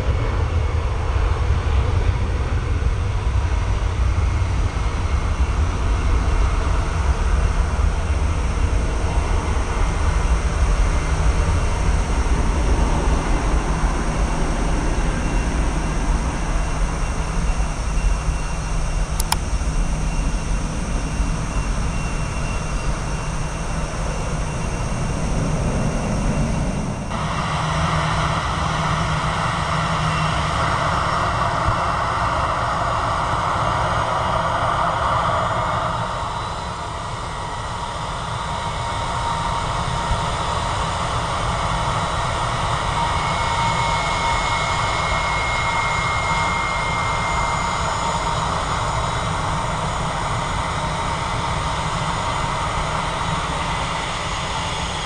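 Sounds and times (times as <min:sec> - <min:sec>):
jet airliner rumble: 0:00.0 - 0:55.0
jet engines whining: 0:00.0 - 0:55.0.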